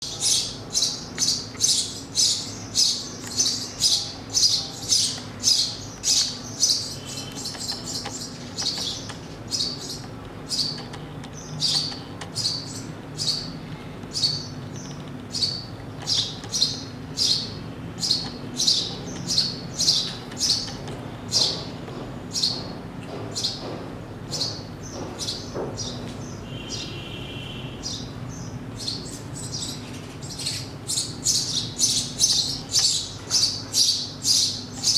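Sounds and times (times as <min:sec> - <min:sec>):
sparrow chirping: 0:00.0 - 0:34.9.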